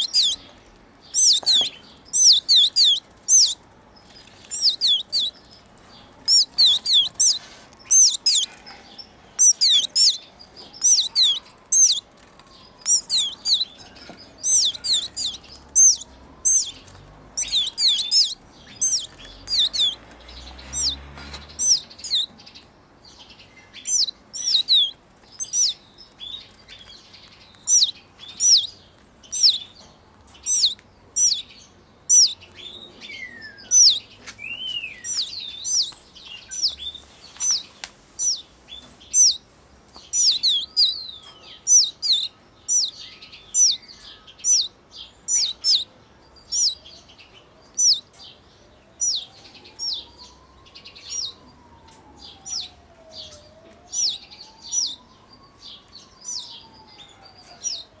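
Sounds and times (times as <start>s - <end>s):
canary fledgling chirping: 0.0s - 57.9s.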